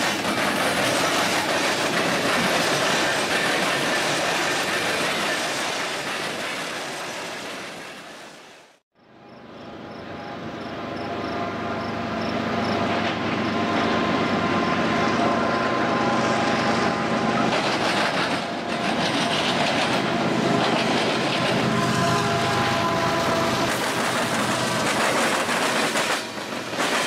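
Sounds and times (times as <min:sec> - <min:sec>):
diesel locomotive engine rumble: 0:00.0 - 0:27.0.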